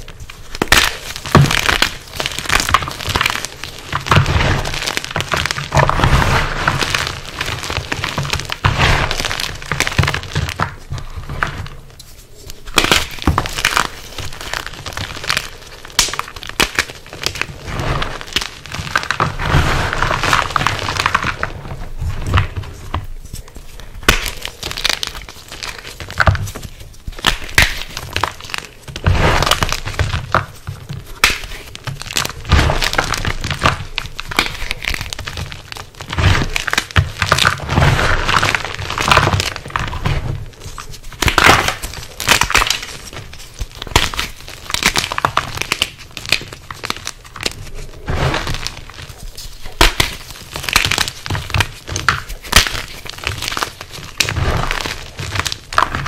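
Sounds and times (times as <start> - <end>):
chalk blocks crushed by hand: 0.0 - 11.8, 12.7 - 56.0.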